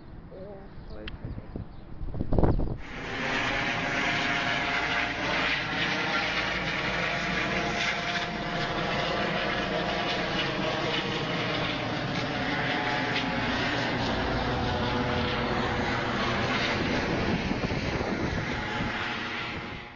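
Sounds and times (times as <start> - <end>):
steady engine drone: 0.0 - 19.9.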